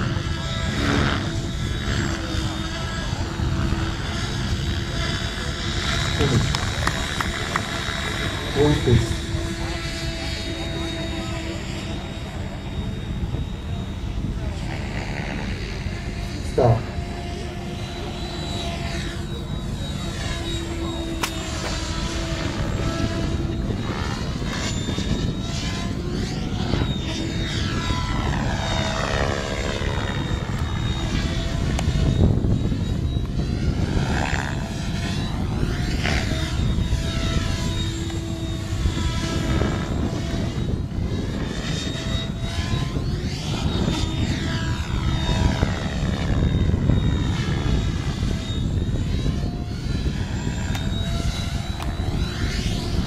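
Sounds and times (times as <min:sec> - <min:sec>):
model helicopter rotor whine: 0:00.0 - 0:53.0
steady low rumble: 0:00.0 - 0:53.0.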